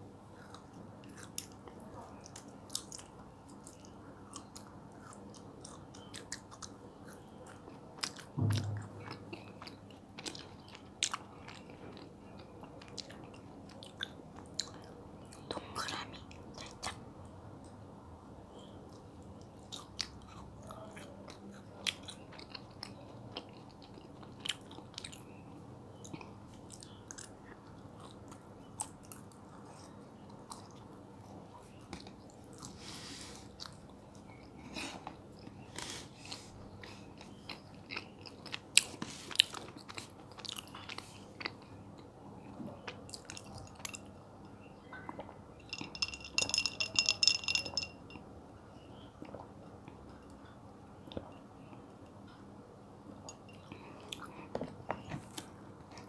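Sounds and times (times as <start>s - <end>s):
chewing soft jelly: 0.2s - 17.8s, 18.5s - 48.2s, 48.8s - 56.0s.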